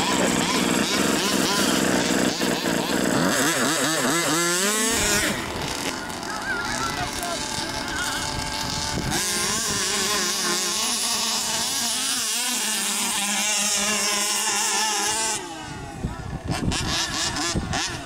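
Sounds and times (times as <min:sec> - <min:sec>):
rc buggy engines revving: 0:00.0 - 0:18.0.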